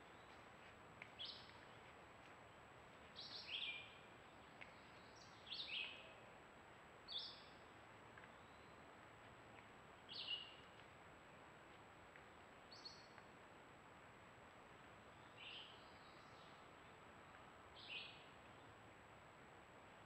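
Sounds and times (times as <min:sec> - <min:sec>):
low outdoor hiss: 0:00.0 - 0:20.0.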